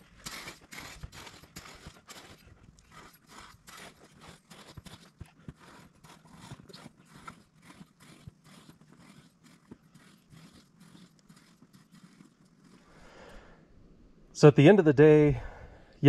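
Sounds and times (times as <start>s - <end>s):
shovel scraping sand: 0.0s - 13.0s.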